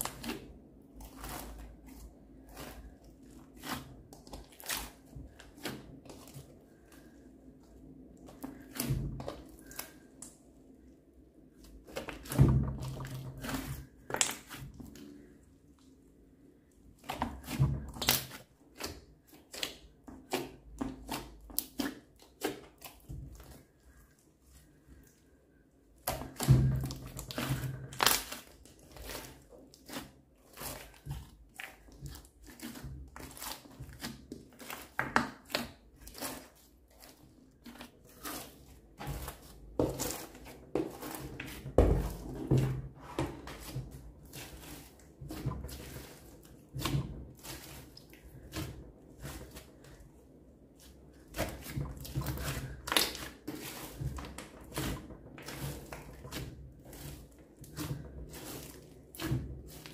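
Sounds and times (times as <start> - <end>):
slime squelching and crackling: 0.0 - 59.9.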